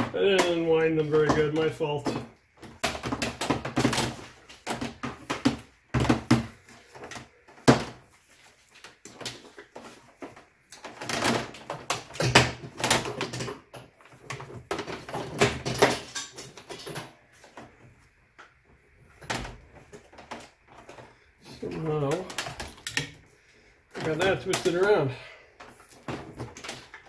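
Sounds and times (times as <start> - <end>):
wires clattering and rustling: 0.0 - 27.0.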